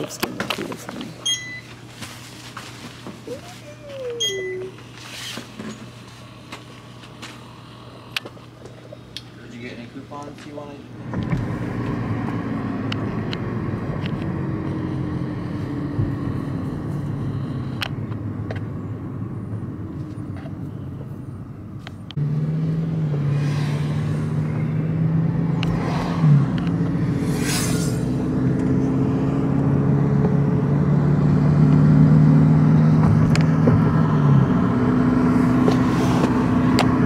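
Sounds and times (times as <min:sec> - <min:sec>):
road noise: 0:00.0 - 0:37.0
car engine hum: 0:03.0 - 0:37.0.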